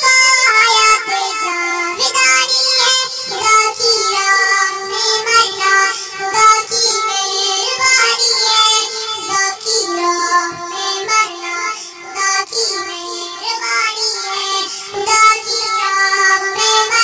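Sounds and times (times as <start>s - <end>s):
high voice singing devotional song: 0.0s - 17.0s.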